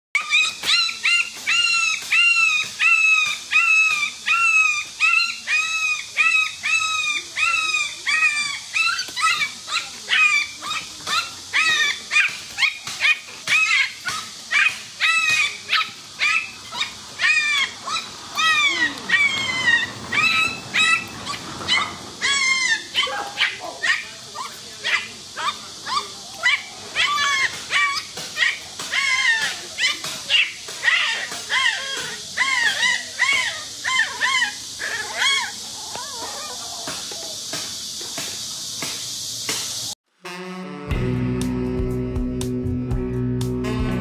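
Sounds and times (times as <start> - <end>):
puppy yelping: 0.2 - 36.8.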